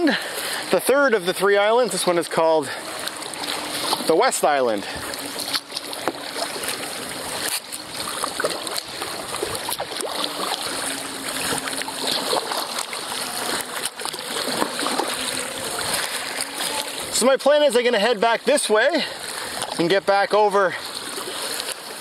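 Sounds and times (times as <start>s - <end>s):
water splashing against kayak hull: 0.0s - 22.0s.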